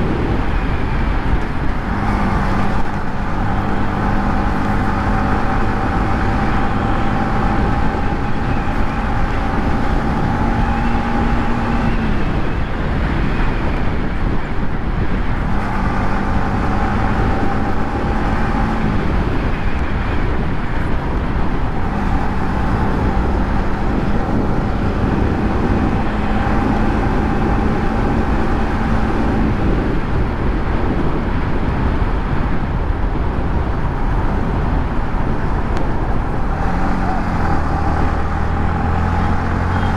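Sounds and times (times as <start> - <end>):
motorcycle engine: 0.0 - 32.8, 33.4 - 39.9
wind and road noise: 0.0 - 39.9.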